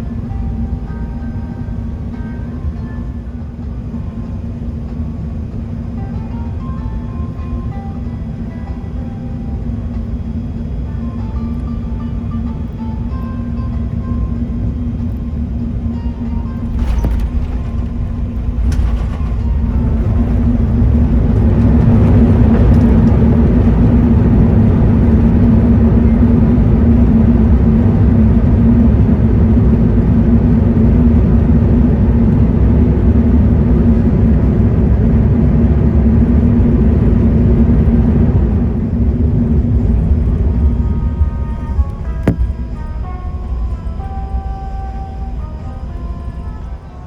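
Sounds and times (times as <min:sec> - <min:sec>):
jet engines in reverse thrust: 0:00.0 - 0:47.0.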